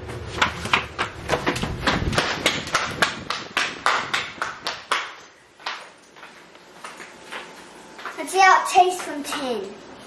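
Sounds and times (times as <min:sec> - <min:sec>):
quick footsteps on hard floor: 0:00.0 - 0:08.2.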